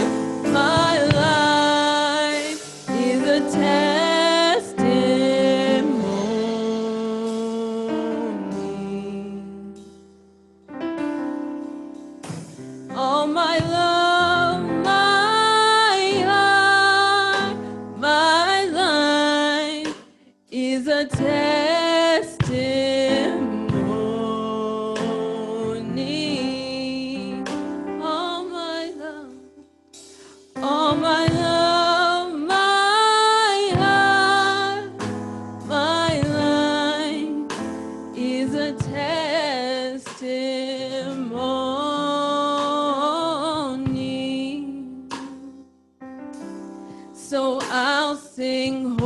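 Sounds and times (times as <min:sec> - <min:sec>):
person singing gospel song: 0:00.0 - 0:09.8, 0:12.3 - 0:45.6, 0:46.9 - 0:49.0
instrumental backing: 0:00.0 - 0:49.0.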